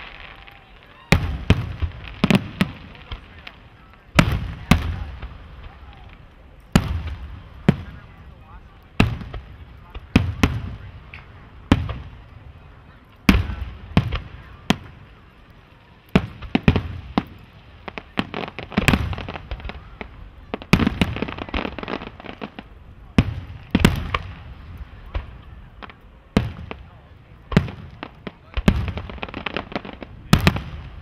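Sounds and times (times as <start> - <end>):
firework bangs: 0.0 - 31.0
small firework pops: 0.0 - 31.0.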